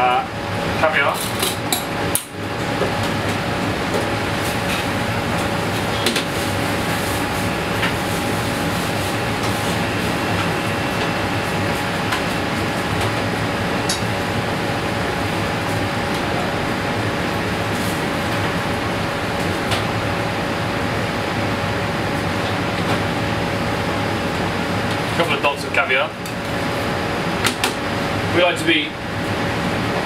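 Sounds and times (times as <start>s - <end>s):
kitchen ventilation whoosh: 0.4s - 30.0s.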